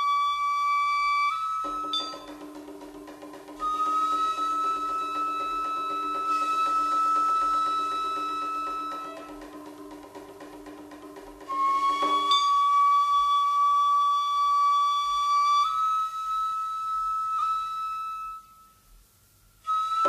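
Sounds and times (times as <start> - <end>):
flute holding high notes: 0.0 - 2.5, 3.6 - 9.6, 11.4 - 18.9, 19.6 - 20.0.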